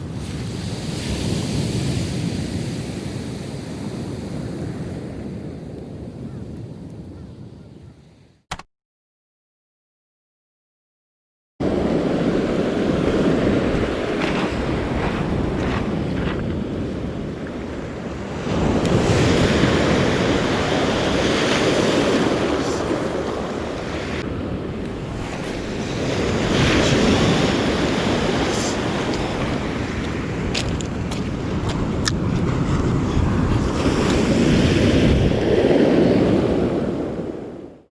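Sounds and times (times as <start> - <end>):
ocean surf breaking: 0.0 - 6.9, 11.6 - 37.8
wind buffeting microphone: 0.0 - 8.4, 11.6 - 37.6.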